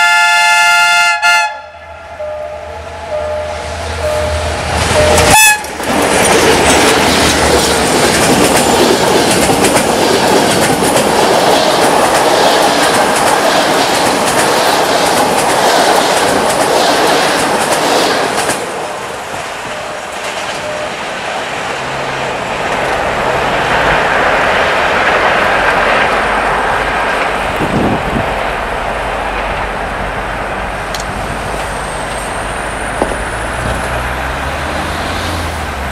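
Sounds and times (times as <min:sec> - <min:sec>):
diesel locomotive passing: 0:00.0 - 0:35.9
train coaches clattering over rail joints: 0:04.7 - 0:34.9.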